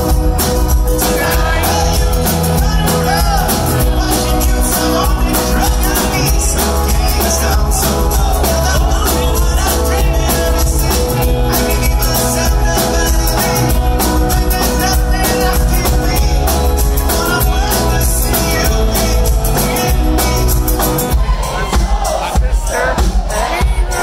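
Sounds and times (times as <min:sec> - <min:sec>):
drums beat: 0:00.0 - 0:24.0
lead singer singing: 0:00.0 - 0:24.0
pop-rock band playing: 0:00.0 - 0:24.0.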